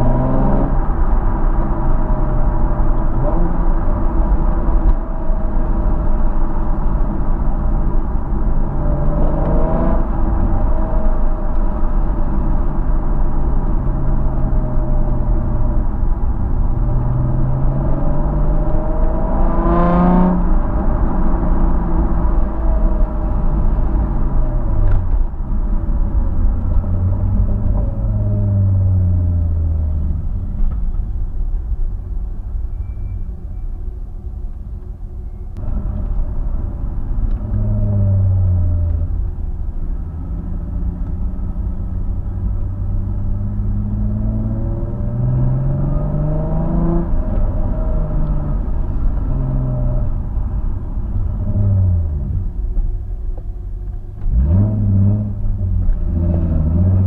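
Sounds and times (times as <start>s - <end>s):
car engine accelerating: 0.0s - 32.0s, 35.6s - 57.0s.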